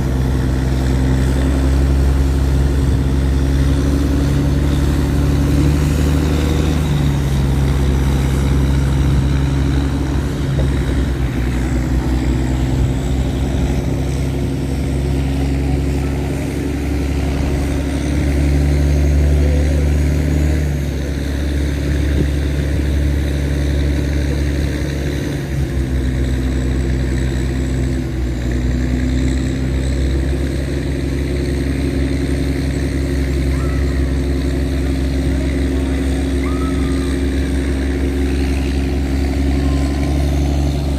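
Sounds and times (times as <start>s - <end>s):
tugboat engine droning: 0.0s - 40.9s.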